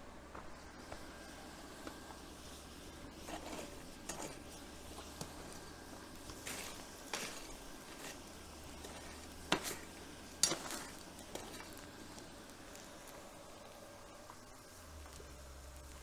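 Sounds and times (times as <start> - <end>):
hot metal sizzling in water: 0.6 - 16.0.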